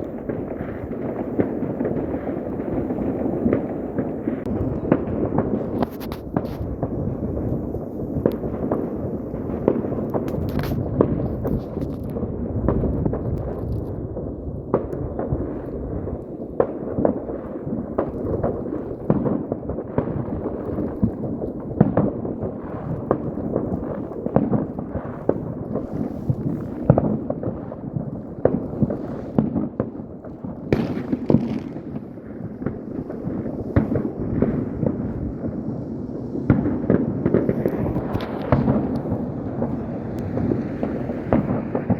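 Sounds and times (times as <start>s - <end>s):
fireworks bangs and crackles: 0.0s - 41.9s
sharp firework cracks: 0.0s - 41.9s.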